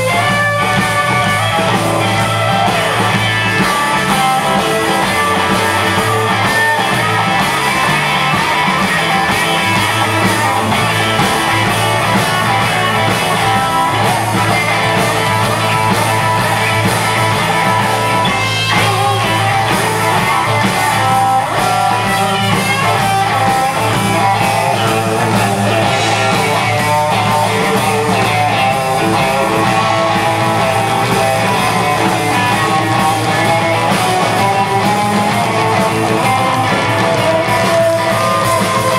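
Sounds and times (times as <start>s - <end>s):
bass line: 0.0s - 38.9s
drums: 0.0s - 38.9s
electric guitars: 0.0s - 38.9s.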